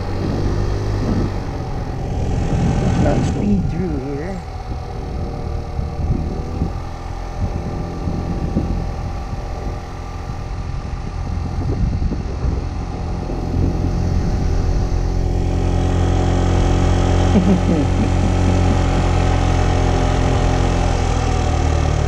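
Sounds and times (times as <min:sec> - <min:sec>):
scooter engine droning: 0:00.0 - 0:22.0.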